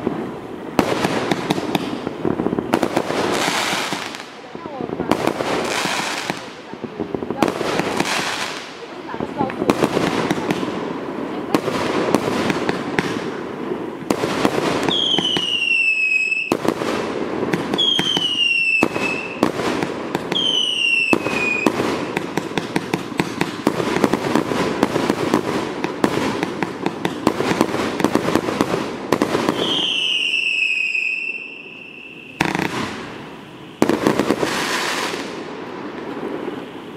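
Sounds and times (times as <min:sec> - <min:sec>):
fireworks launches and bursts: 0:00.0 - 0:36.9.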